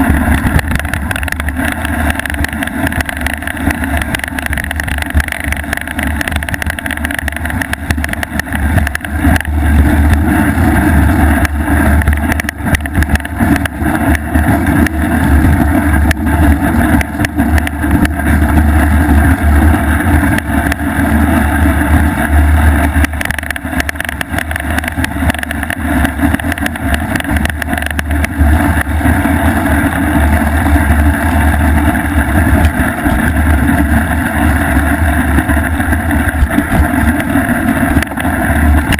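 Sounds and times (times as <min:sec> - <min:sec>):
camera vibration rattling: 0:00.0 - 0:38.9.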